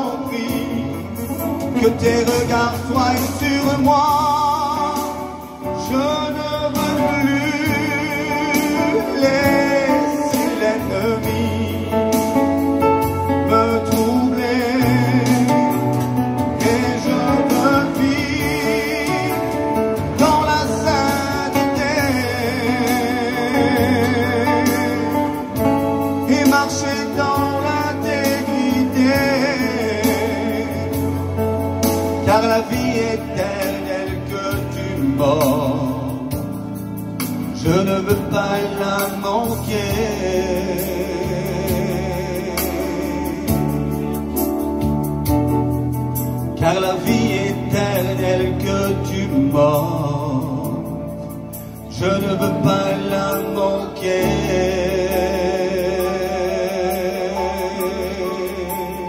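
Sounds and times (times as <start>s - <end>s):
guitar accompaniment: 0.0s - 59.0s
man singing into a microphone: 0.0s - 59.0s.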